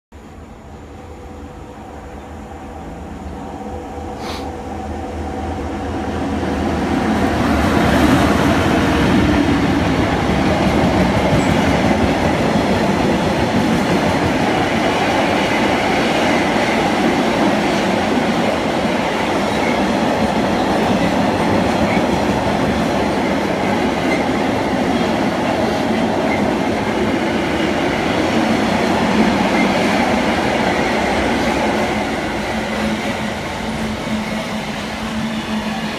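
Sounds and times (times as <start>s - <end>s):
electric locomotive passing: 0.2s - 35.9s.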